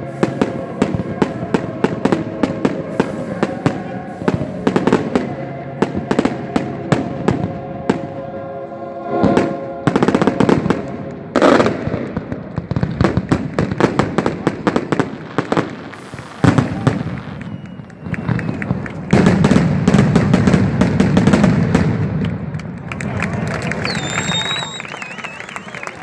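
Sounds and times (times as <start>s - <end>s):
fireworks bangs and crackles: 0.0s - 8.3s, 9.2s - 26.0s.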